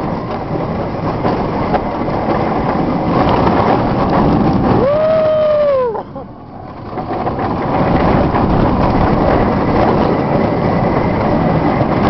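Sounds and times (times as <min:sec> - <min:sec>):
roller coaster rumbling on track: 0:00.0 - 0:12.0
wind rushing on microphone: 0:00.0 - 0:12.0.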